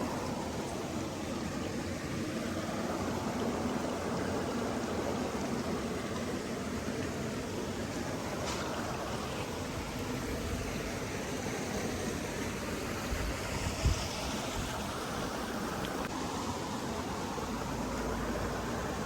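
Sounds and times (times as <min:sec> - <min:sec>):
steady rushing nature ambience: 0:00.0 - 0:19.0.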